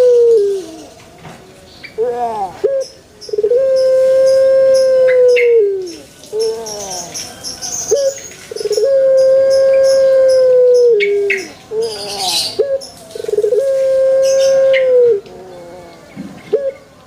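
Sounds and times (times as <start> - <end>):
dove cooing: 0.0 - 1.0, 2.0 - 17.0.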